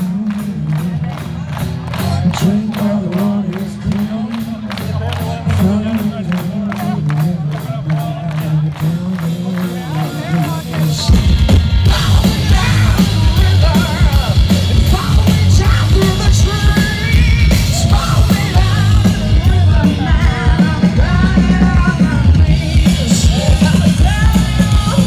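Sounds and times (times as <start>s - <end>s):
live hard rock band: 0.0s - 25.0s.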